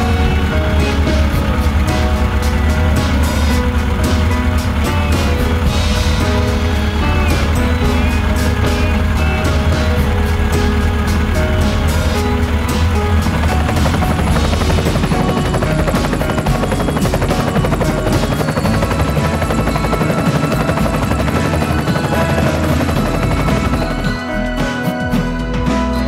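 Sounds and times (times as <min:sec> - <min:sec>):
music with fast busy beat: 0:00.0 - 0:26.0.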